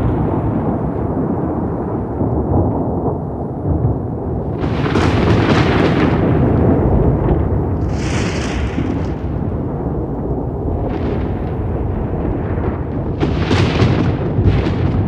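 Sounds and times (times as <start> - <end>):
crackling thunder peal: 0.0 - 15.0
thunder rumbling: 0.0 - 15.0.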